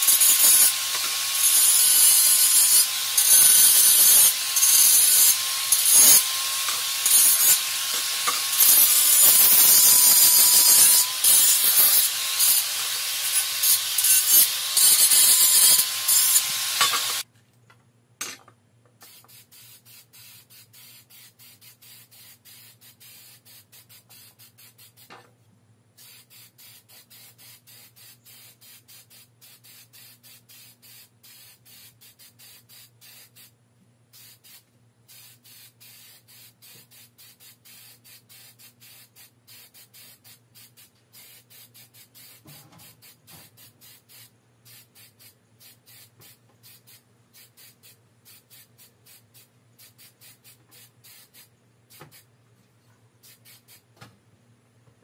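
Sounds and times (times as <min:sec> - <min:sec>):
spray can hissing bursts: 0:00.0 - 0:17.2, 0:19.0 - 0:25.1, 0:26.0 - 0:52.3, 0:53.2 - 0:54.0.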